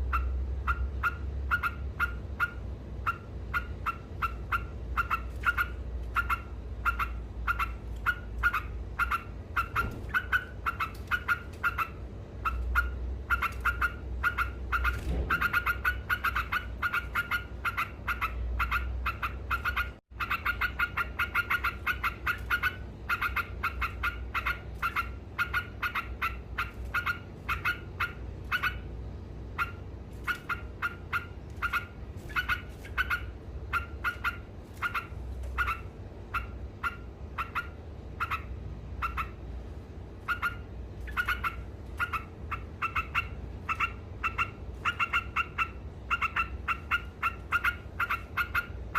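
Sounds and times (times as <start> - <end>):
bulbul chattering song: 0.0 - 48.9
low steady hum: 0.0 - 48.9.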